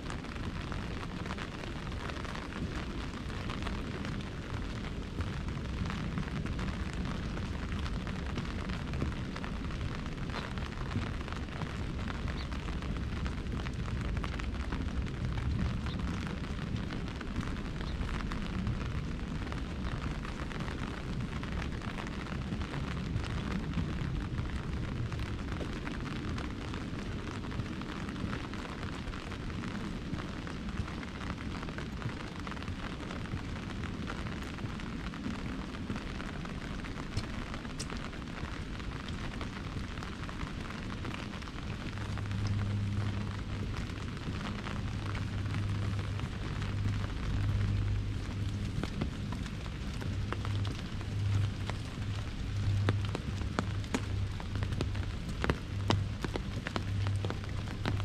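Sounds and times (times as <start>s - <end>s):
low rumble: 0.0s - 58.0s
rain on umbrella: 0.0s - 58.0s.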